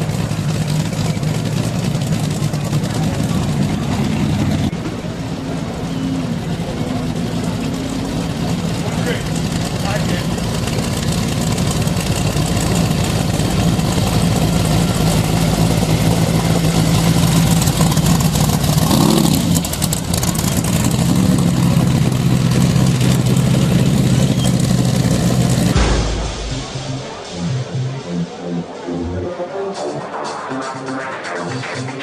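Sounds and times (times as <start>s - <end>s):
car engine idling and revving: 0.0s - 29.1s.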